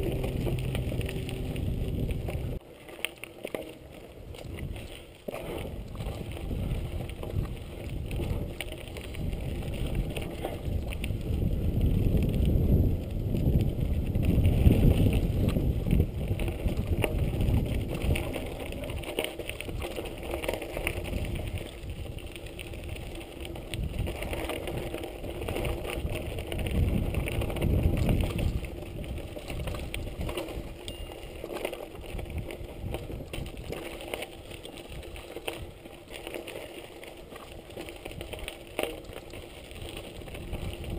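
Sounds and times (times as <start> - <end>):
wind rumbling on microphone: 0.0 - 2.6, 3.8 - 40.9
bike rattling over bumps: 0.0 - 40.9
tyres crunching over leaves and gravel: 0.0 - 40.9.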